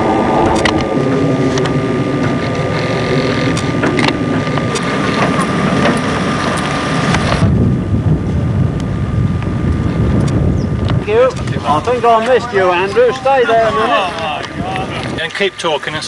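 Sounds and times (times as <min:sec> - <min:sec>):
low engine rumble: 0:00.0 - 0:16.0
thin steady whine: 0:00.0 - 0:16.0
wind buffeting microphone: 0:00.0 - 0:16.0.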